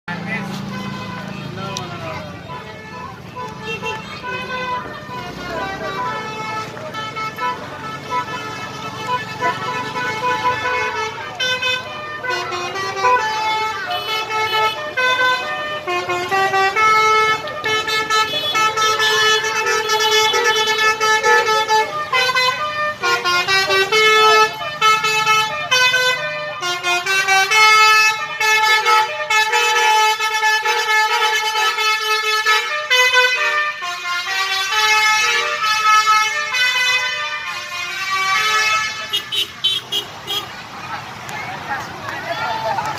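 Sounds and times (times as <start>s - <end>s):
multi-tone air horn melody: 0.2s - 40.6s.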